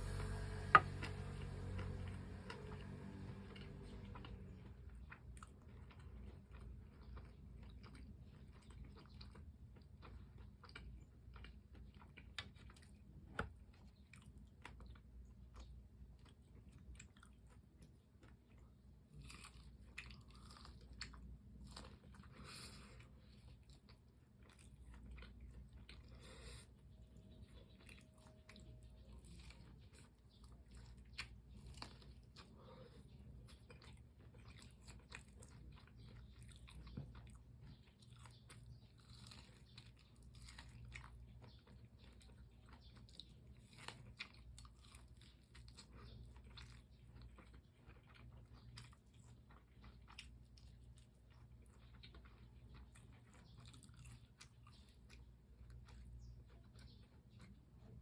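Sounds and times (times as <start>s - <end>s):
chewing crispy fried chicken: 0.0s - 58.0s.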